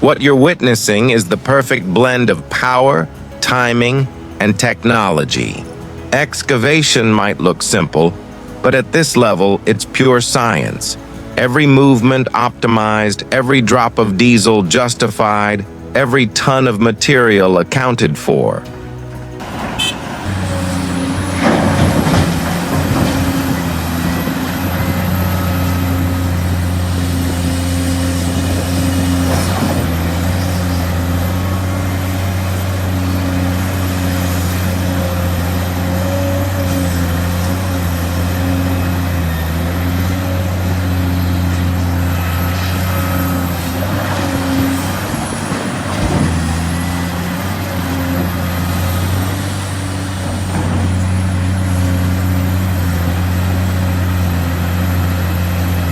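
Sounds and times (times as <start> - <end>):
heavy diesel engines humming: 0.0 - 55.9.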